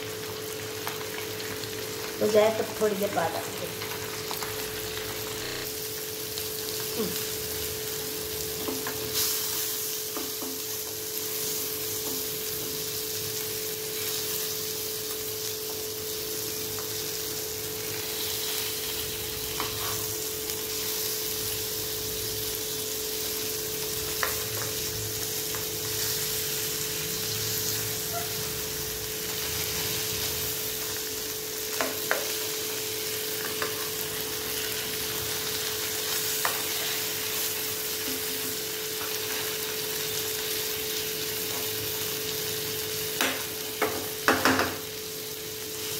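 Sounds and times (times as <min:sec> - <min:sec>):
fish sizzling in a pan: 0:00.0 - 0:45.9.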